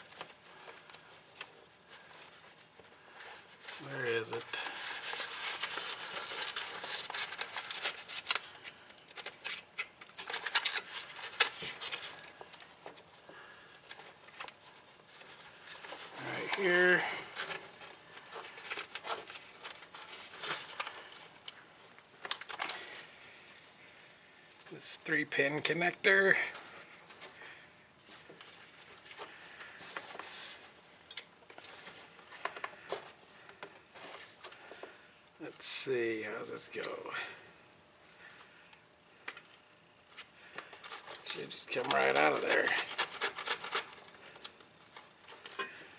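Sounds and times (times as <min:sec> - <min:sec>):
wires rustling: 0:00.0 - 0:37.1, 0:38.0 - 0:45.9.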